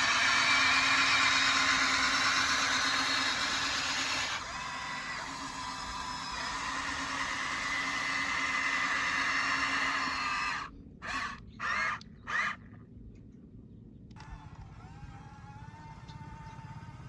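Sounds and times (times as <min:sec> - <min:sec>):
toy truck motor whine: 0:00.0 - 0:12.6, 0:14.2 - 0:17.0.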